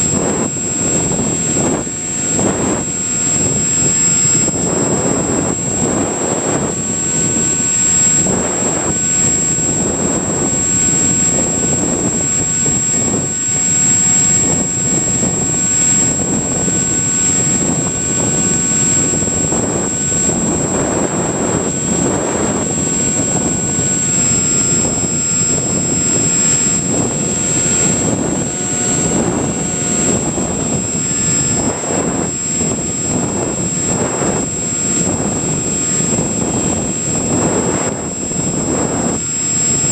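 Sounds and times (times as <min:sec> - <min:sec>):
electric motor whine: 0:00.0 - 0:39.9
wind rushing over plane: 0:00.0 - 0:39.9.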